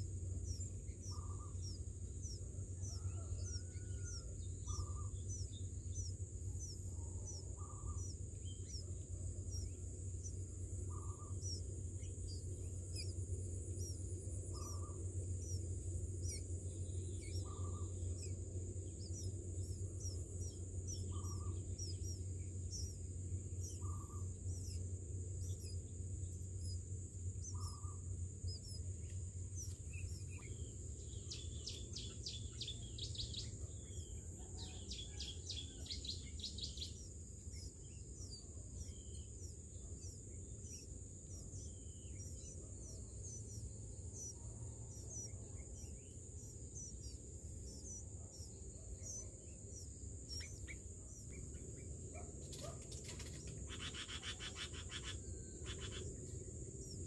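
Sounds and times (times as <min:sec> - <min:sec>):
high insect drone: 0:00.0 - 0:57.0
nestlings begging calls: 0:00.0 - 0:57.0.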